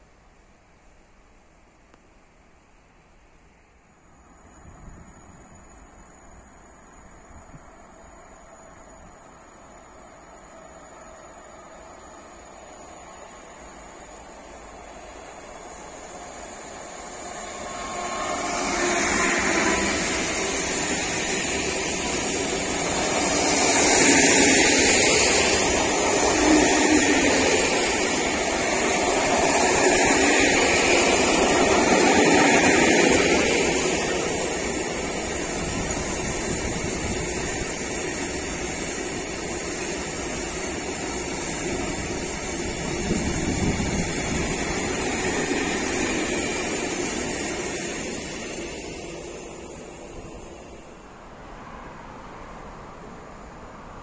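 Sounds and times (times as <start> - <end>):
train wheels rumbling on rails: 4.2 - 54.0
locomotive passing: 8.2 - 54.0.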